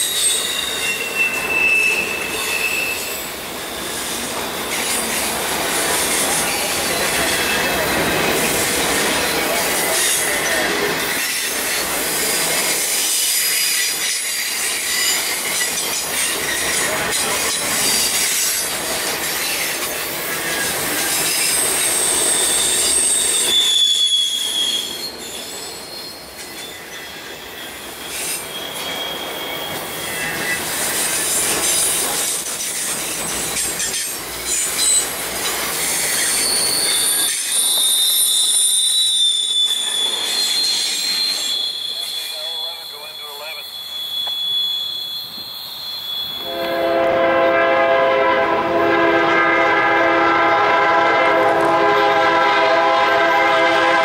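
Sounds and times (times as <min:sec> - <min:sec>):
wheel flange squeal: 0:00.0 - 0:47.0
train wheels rumbling on rail: 0:00.0 - 0:54.0.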